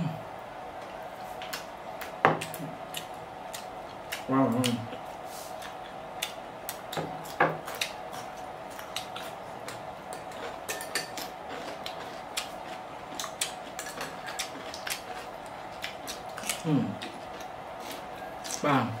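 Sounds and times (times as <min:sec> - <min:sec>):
crunchy vegetables being chewed: 0:01.2 - 0:18.8.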